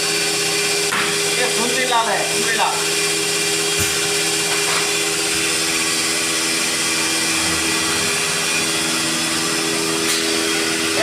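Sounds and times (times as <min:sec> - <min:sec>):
machine whirring: 0:00.0 - 0:11.0.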